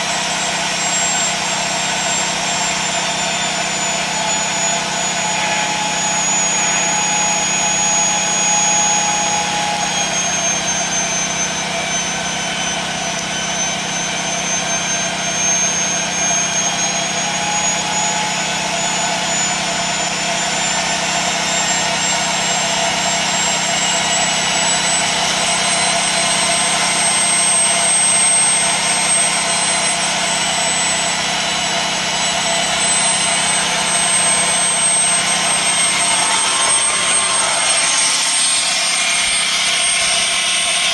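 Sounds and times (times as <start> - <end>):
turbine high whine: 0.0 - 40.9.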